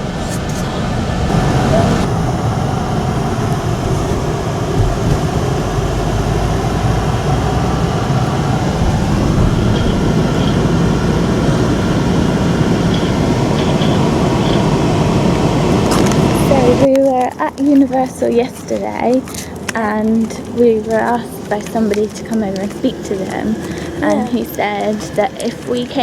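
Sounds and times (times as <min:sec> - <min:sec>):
moving vehicle rumble: 0:00.0 - 0:26.0.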